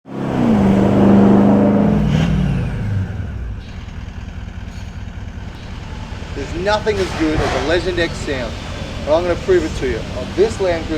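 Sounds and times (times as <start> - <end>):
diesel engine revving and idling: 0.0 - 10.9.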